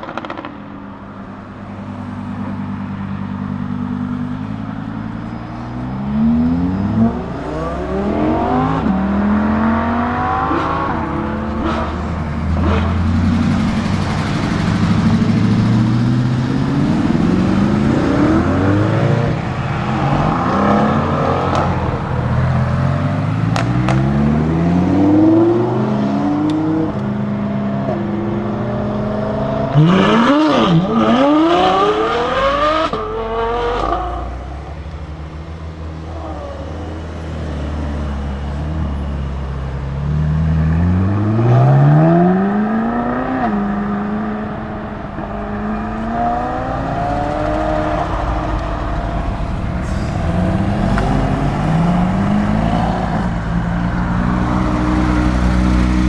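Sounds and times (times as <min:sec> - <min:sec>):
car passing close: 0:00.0 - 0:56.0
sports car accelerating hard: 0:00.0 - 0:56.0.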